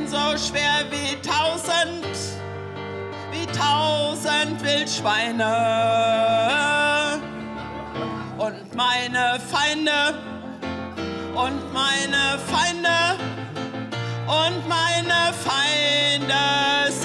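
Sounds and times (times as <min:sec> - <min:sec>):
woman singing operatic aria: 0:00.0 - 0:02.4, 0:03.3 - 0:07.4, 0:08.2 - 0:10.5, 0:11.2 - 0:17.0
piano chords on keyboard: 0:00.0 - 0:17.0.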